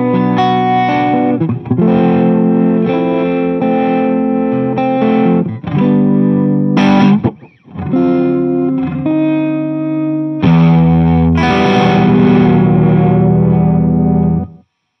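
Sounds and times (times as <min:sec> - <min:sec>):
electric guitar chords with phaser: 0:00.0 - 0:14.6.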